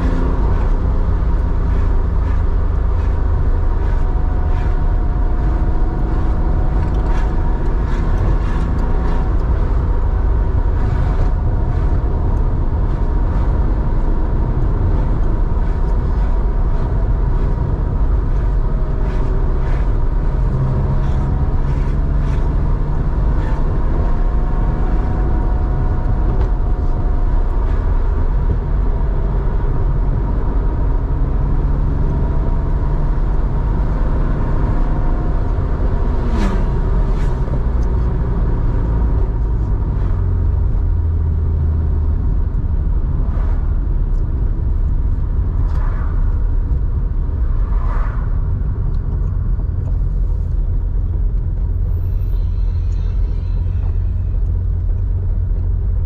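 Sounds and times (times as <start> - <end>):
car engine rumbling while driving: 0.0 - 56.0.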